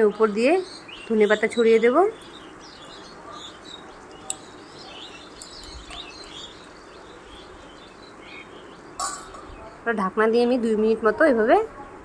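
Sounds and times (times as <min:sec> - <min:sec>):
small birds chirping: 0:00.0 - 0:12.0
steady low hiss: 0:00.0 - 0:12.0.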